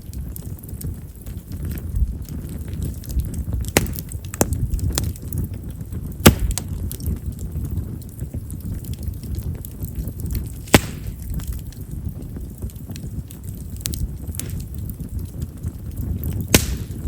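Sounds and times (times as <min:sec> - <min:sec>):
campfire crackling: 0:00.0 - 0:17.0
sharp pops of burning wood: 0:00.0 - 0:17.0.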